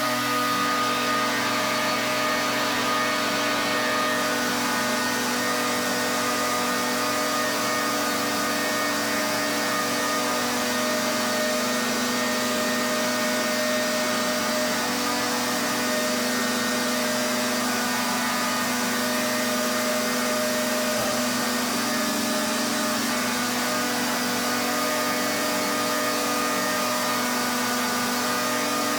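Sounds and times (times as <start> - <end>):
pressure washer motor droning: 0.0 - 28.9.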